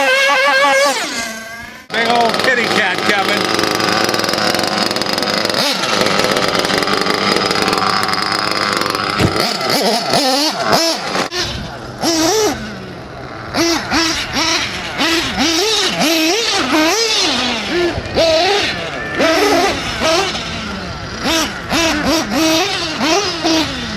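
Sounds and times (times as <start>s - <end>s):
toy cars motors revving: 0.0s - 23.9s.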